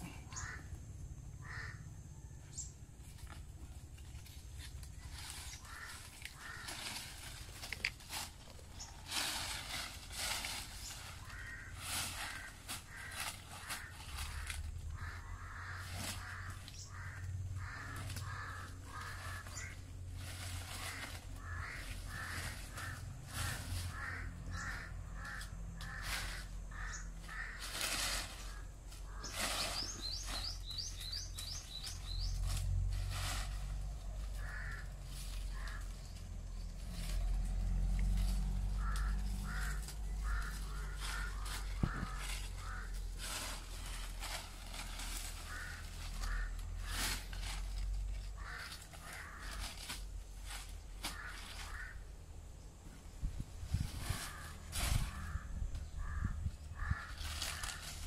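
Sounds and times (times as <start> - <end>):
bird harsh repeated calls: 0.0 - 52.3, 53.7 - 58.0.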